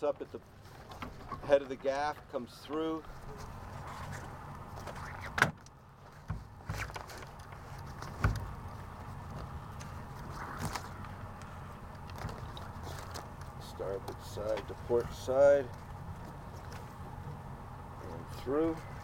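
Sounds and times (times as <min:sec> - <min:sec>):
sailcloth rustling and crinkling: 0:00.0 - 0:17.4
low steady rumble: 0:00.0 - 0:19.0.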